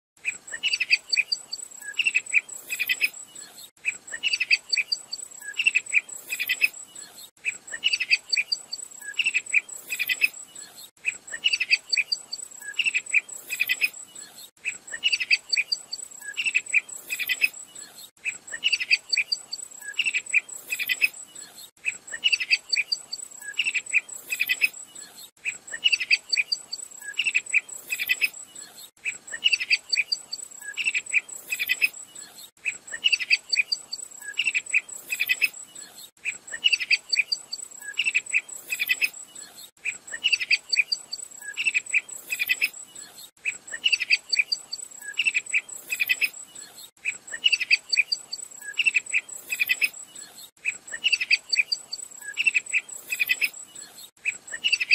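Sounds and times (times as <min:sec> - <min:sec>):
bird chirping calls: 0:00.2 - 0:54.9.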